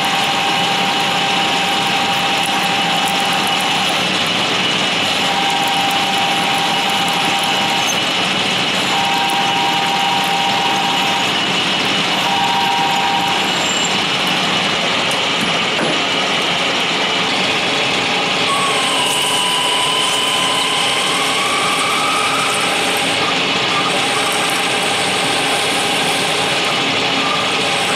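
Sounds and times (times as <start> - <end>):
lathe drilling aluminum: 0.0 - 27.9
wavering machine whine: 0.0 - 27.9.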